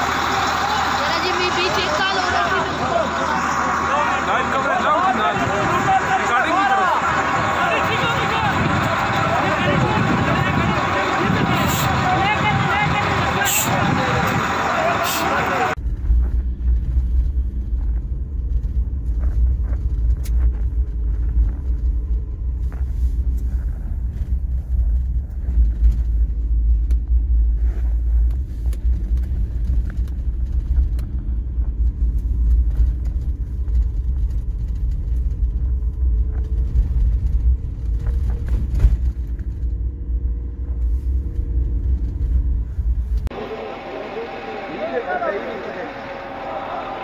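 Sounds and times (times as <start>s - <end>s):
car interior engine and road rumble: 0.0s - 47.0s.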